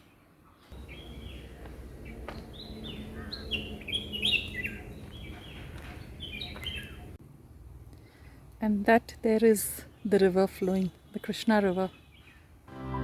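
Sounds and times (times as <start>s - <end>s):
birds chirping: 0.0s - 7.2s, 8.9s - 12.7s.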